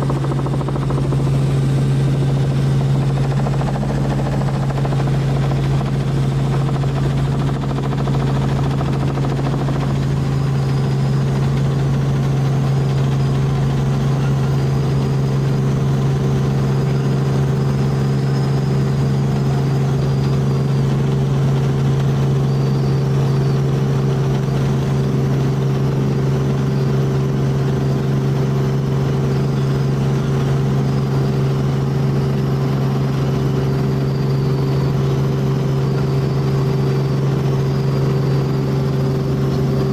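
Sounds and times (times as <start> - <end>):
helicopter droning: 0.0 - 39.9.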